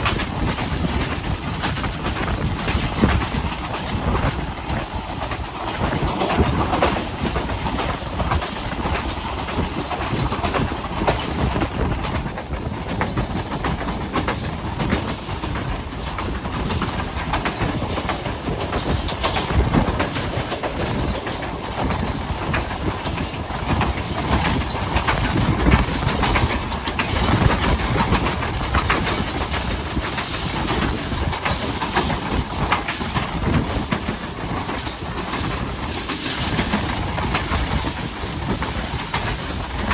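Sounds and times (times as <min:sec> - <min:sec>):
train rumbling on track: 0:00.0 - 0:39.9
wheels clattering over rail joints: 0:00.0 - 0:39.9.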